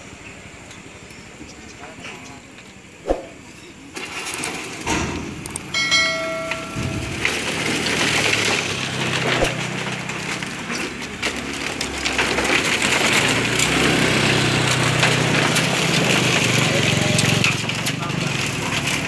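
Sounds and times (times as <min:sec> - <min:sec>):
scooter engines running: 0:00.0 - 0:19.0
bamboo slats rattling under wheels: 0:03.3 - 0:19.0.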